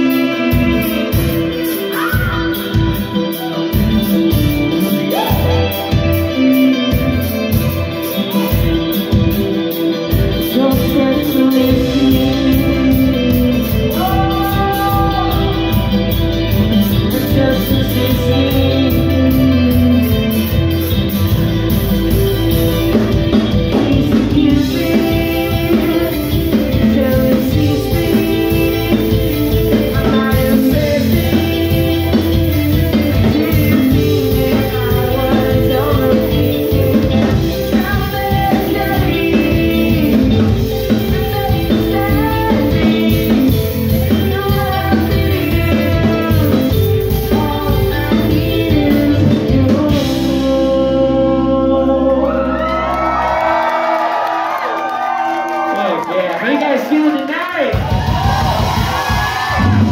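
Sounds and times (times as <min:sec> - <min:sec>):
man singing: 0:00.0 - 0:08.2, 0:10.1 - 0:21.2, 0:22.9 - 0:52.9
bass guitar: 0:00.0 - 0:55.8, 0:57.7 - 0:59.9
drum kit: 0:00.0 - 0:55.8, 0:57.4 - 0:59.9
electric guitars: 0:00.0 - 0:59.9.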